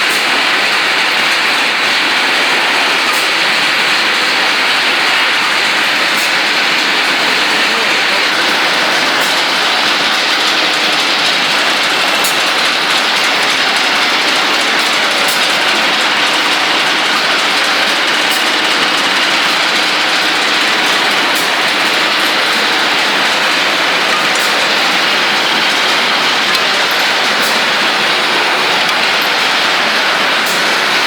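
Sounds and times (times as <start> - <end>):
pipe cutting lathe running: 0.0 - 31.0.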